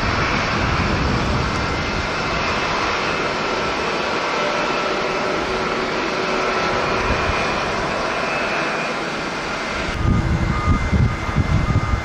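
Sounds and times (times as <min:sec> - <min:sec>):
wind buffeting microphone: 0:00.0 - 0:08.3, 0:09.0 - 0:12.0
jet engine noise: 0:00.0 - 0:12.0.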